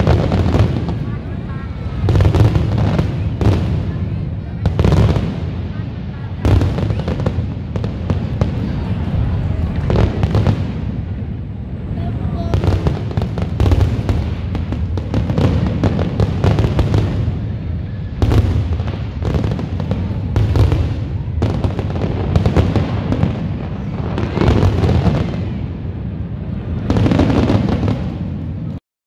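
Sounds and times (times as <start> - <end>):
deep firework booms: 0.0 - 28.8
firework crackling: 0.0 - 28.8.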